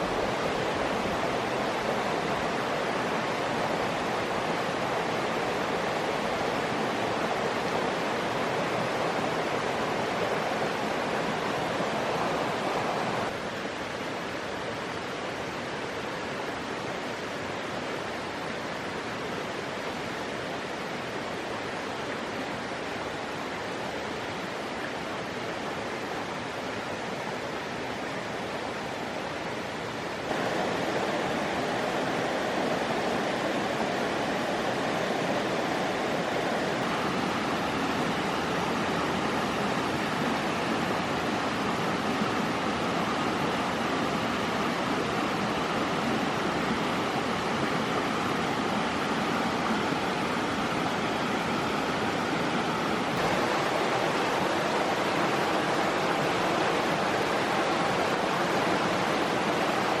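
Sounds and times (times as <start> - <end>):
stream rushing over rocks: 0.0 - 60.0.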